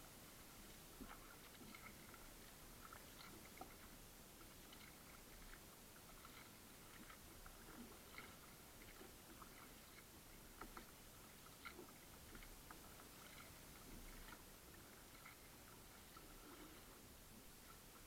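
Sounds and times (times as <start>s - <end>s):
low steady hiss: 0.0s - 18.0s
paddle drips and light splashes: 0.0s - 18.0s.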